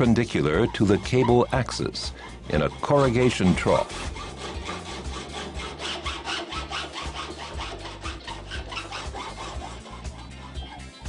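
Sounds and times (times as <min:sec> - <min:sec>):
metal saw cutting cable: 0:00.0 - 0:11.0.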